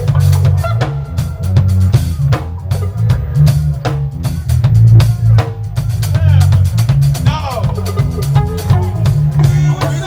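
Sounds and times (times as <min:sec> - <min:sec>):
reggae band playing: 0:00.0 - 0:10.0.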